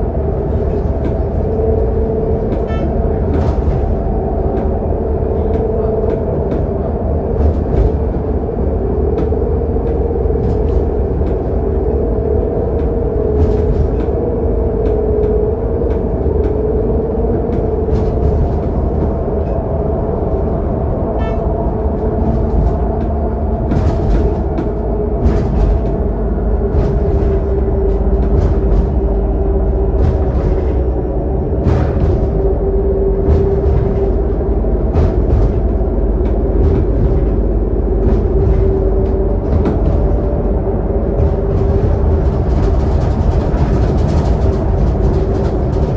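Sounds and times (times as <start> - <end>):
bus engine and road drone: 0.0 - 45.9
interior clicks and rattles: 0.0 - 45.9.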